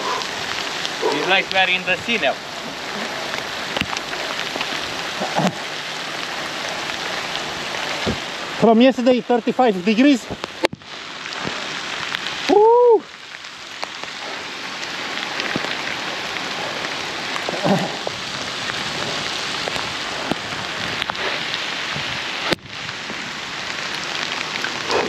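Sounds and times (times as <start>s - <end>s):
bicycle tyres rolling through water: 0.0s - 25.0s
heavy rain: 0.0s - 25.0s.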